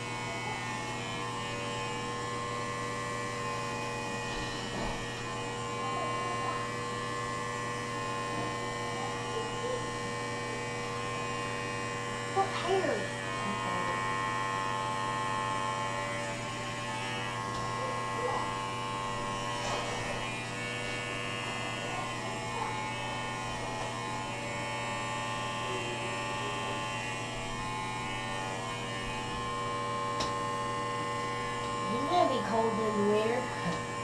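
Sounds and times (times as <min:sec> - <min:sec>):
electric hair clippers buzzing: 0:00.0 - 0:34.0.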